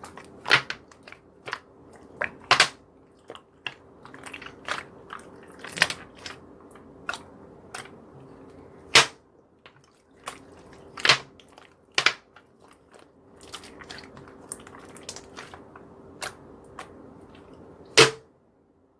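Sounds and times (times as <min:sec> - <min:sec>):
faint steady hum: 0:00.0 - 0:18.9.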